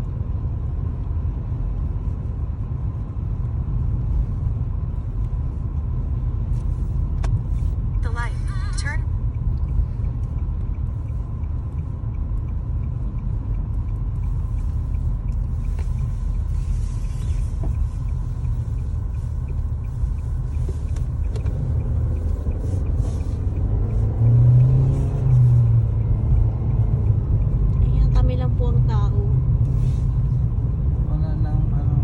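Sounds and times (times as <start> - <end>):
road and engine rumble in car: 0.0 - 32.0.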